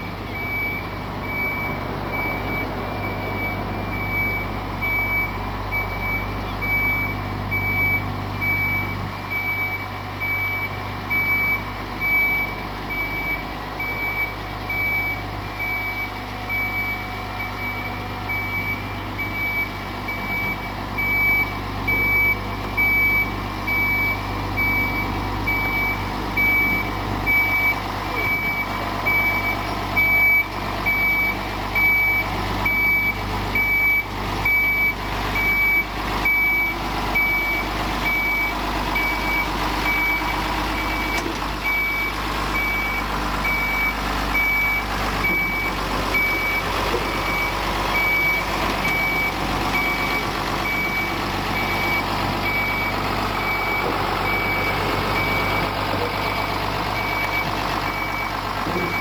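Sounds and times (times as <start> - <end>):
diesel engine running: 0.0 - 59.0
reversing alarm beeping: 0.0 - 59.0.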